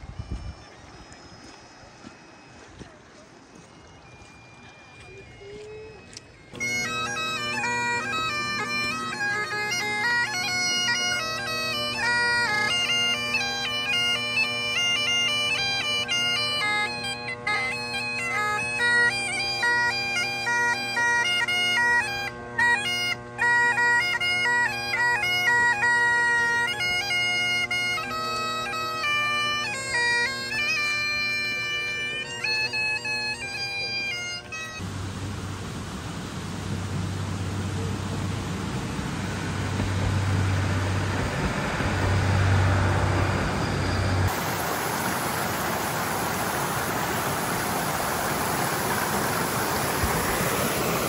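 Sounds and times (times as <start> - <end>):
bagpipes playing a tune: 0.0 - 51.0.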